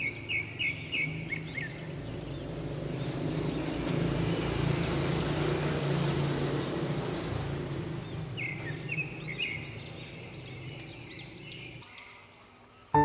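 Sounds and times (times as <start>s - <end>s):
bird chirping: 0.0s - 5.6s, 7.8s - 13.0s
engine humming: 1.2s - 11.8s.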